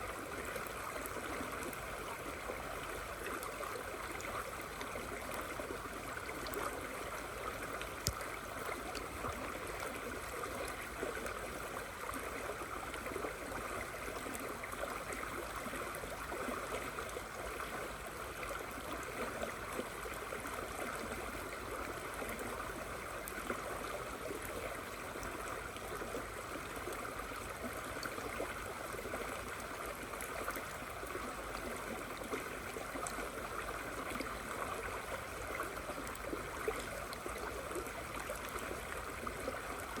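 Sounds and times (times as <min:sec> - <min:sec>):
river flowing: 0:00.0 - 0:40.0.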